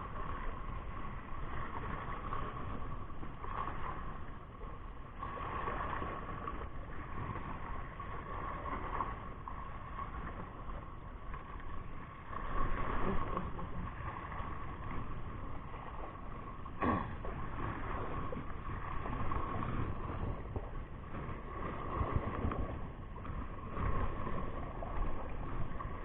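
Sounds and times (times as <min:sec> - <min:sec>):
sea water washing against rocks: 0:00.0 - 0:26.0
wind noise on microphone: 0:00.0 - 0:26.0.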